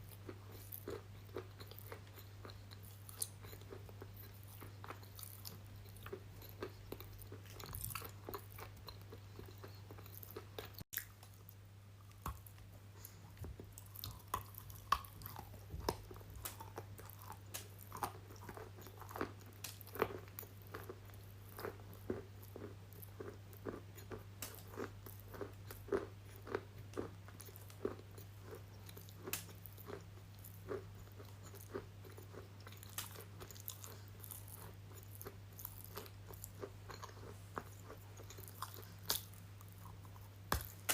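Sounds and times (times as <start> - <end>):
crunchy bites and chewing: 0.0 - 11.5, 12.1 - 40.9.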